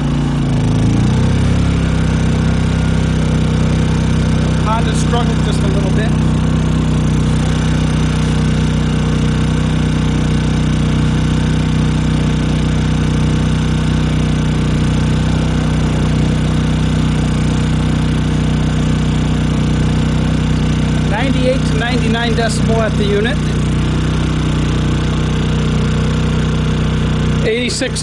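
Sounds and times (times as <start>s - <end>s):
generator engine running: 0.0s - 28.0s.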